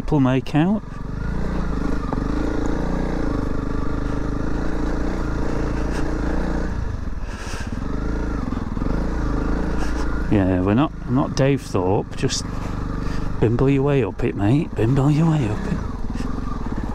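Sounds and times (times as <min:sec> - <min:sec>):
motorcycle engine under load: 0:00.0 - 0:16.9.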